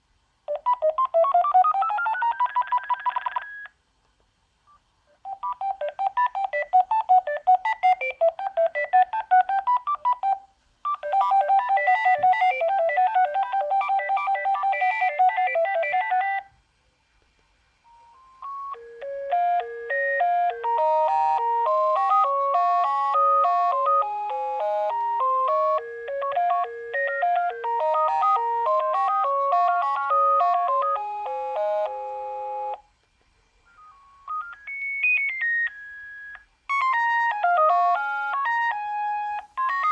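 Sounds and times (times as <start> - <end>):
electronic phone ringtones: 0.5 - 3.8, 5.2 - 16.5, 17.9 - 32.9, 33.7 - 39.9.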